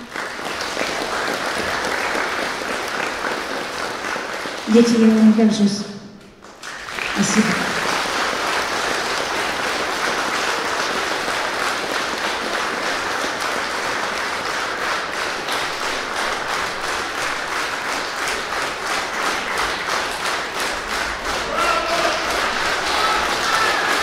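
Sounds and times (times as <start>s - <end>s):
audience applauding: 0.0s - 24.0s
rhythmic clapping in unison: 0.0s - 24.0s.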